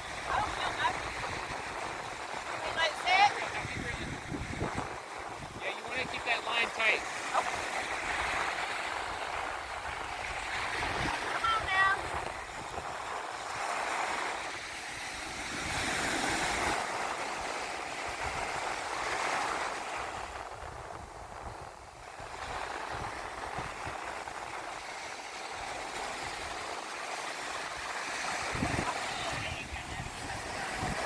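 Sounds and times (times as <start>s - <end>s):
surf washing onto beach: 0.0s - 31.0s
wind rumbling on microphone: 0.0s - 31.0s.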